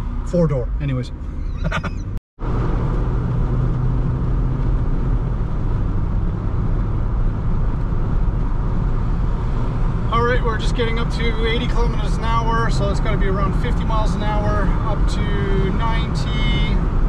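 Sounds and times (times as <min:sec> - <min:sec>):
road noise rumble in car: 0:00.0 - 0:17.0.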